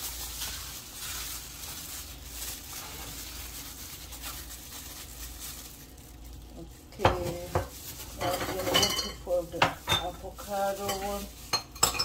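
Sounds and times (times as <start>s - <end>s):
plastic glove rustling: 0.0s - 12.0s.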